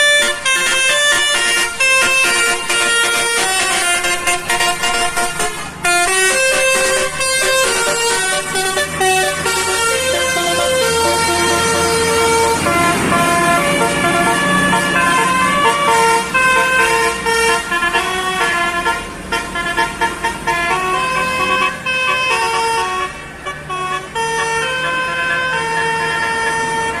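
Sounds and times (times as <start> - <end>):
bus musical horn melody: 0.0 - 27.0
low engine hum: 1.0 - 23.2.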